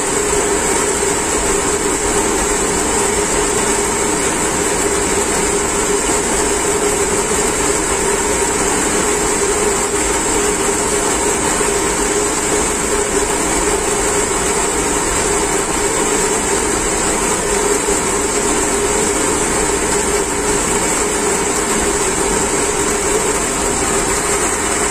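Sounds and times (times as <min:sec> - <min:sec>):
pumps humming with high hiss: 0:00.0 - 0:24.9.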